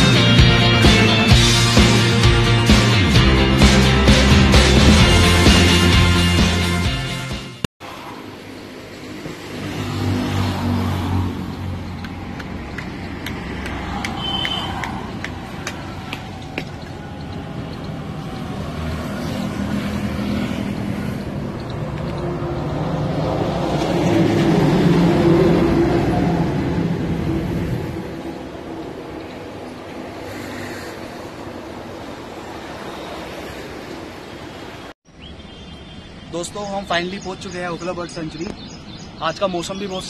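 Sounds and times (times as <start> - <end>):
traffic with scooters and cars: 7.8 - 40.0.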